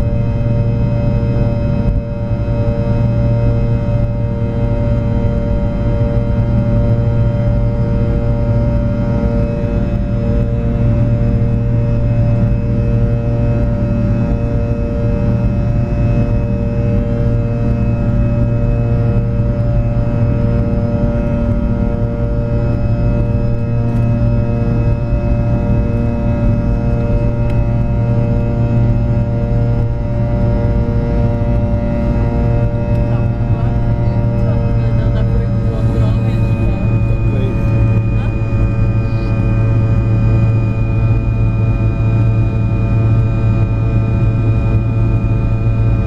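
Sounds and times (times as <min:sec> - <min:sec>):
jet engines droning in cabin: 0:00.0 - 0:46.0.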